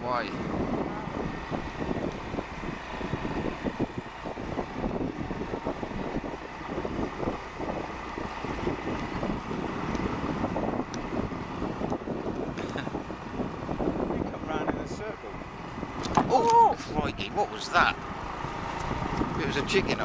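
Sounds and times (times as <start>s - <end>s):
wind noise on microphone: 0.0s - 20.0s
motorbike engine running: 0.5s - 20.0s.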